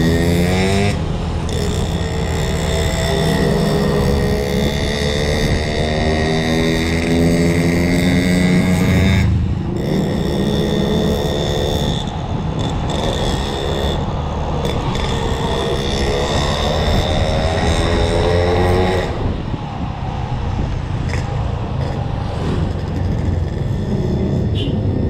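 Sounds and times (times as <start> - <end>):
scooter engine running: 0.0 - 19.2, 21.1 - 25.0.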